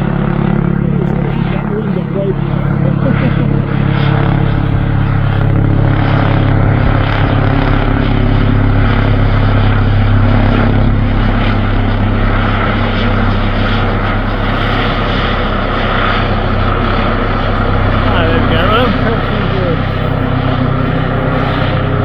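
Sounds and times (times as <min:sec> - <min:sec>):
helicopter flying past: 0:00.0 - 0:22.0.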